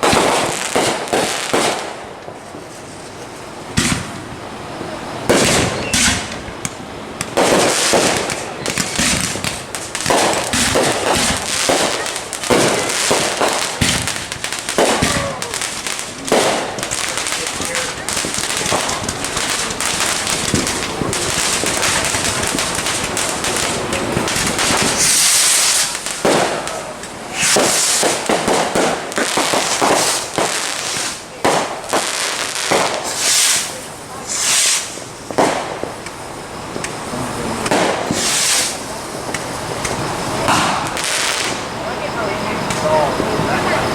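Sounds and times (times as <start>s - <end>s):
fireworks crackling and popping: 0.0s - 43.9s
fireworks hissing bursts: 0.0s - 43.9s.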